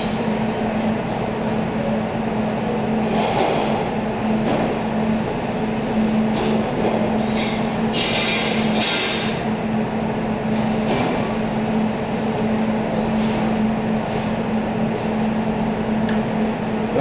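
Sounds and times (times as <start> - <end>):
machinery drone and hum: 0.0 - 17.0.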